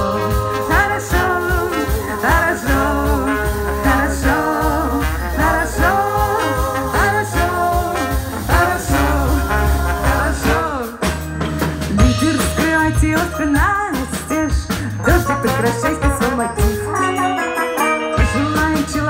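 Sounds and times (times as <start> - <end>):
trombone melody with sliding notes: 0.0 - 13.2, 14.3 - 19.0
bass: 0.0 - 19.0
drums: 0.0 - 19.0
guitar: 0.0 - 19.0.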